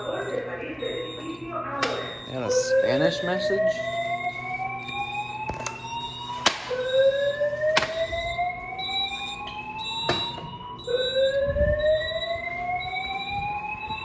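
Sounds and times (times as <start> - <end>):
fire alarm whoop tone: 0.0 - 14.0.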